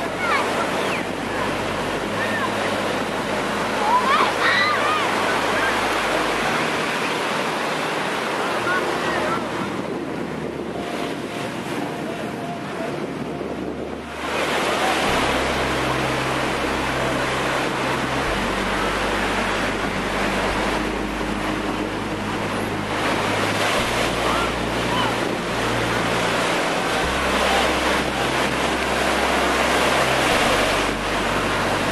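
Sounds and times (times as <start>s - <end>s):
surf breaking on beach: 0.0s - 31.9s
wind buffeting microphone: 6.1s - 31.9s.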